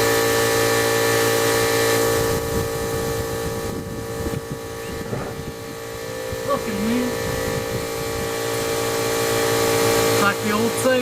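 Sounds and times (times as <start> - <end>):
small power tool motor whining: 0.0 - 11.0.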